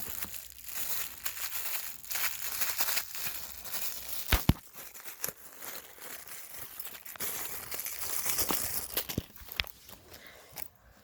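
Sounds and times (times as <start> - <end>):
packing material rustling: 0.0 - 10.6.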